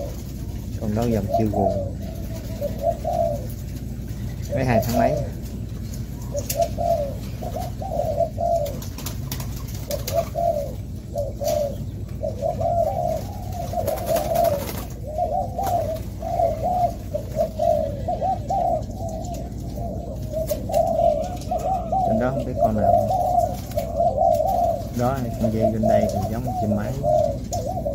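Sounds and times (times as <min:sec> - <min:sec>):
doves cooing: 0:00.0 - 0:27.9.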